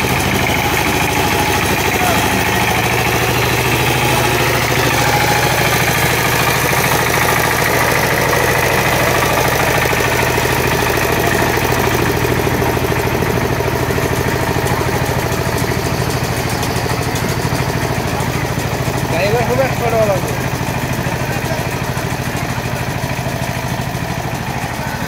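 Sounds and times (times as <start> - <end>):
diesel engine running with clatter: 0.0 - 25.0.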